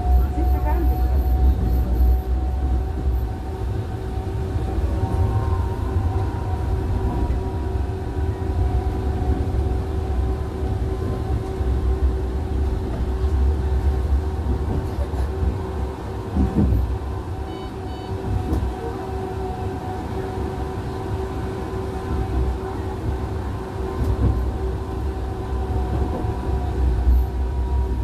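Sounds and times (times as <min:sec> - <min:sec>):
tram wheels rumbling on rail: 0:00.0 - 0:28.0.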